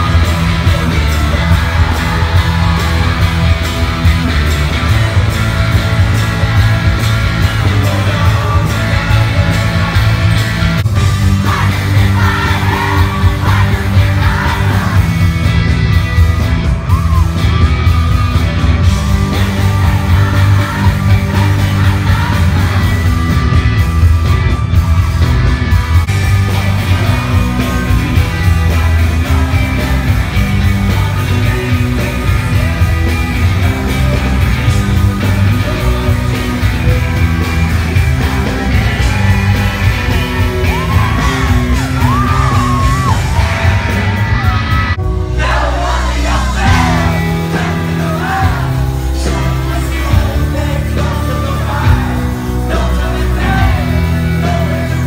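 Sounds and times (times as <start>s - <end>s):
singer singing and yelling: 0.0s - 24.3s, 25.2s - 55.0s
live rock band playing: 0.0s - 55.0s.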